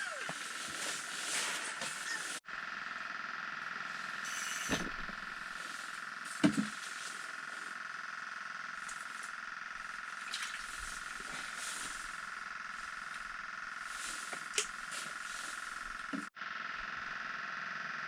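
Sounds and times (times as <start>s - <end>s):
high-pitched buzzing tone: 0.0s - 18.0s.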